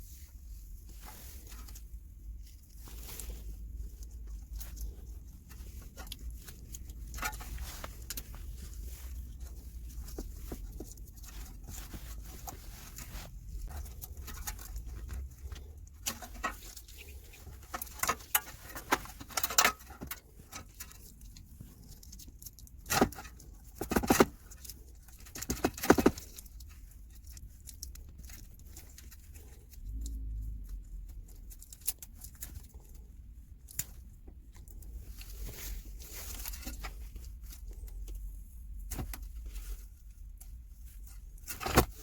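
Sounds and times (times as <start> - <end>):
hands clicking and tapping parts: 3.0 - 42.0.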